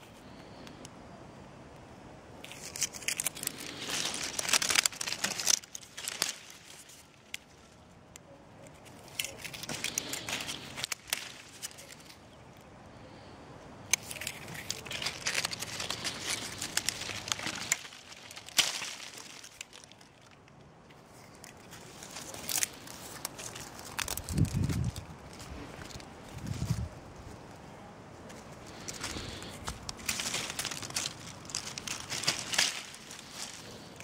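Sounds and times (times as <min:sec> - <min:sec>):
dry branches crackling and snapping: 0:02.4 - 0:13.0, 0:13.8 - 0:34.0.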